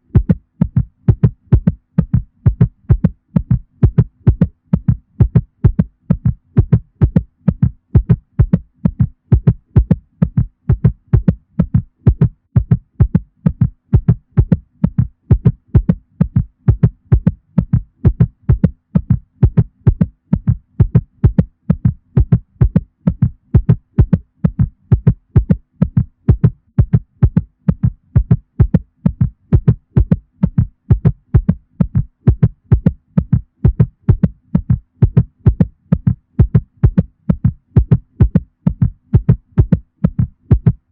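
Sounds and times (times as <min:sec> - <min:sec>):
deep heartbeat: 0:00.0 - 0:40.9.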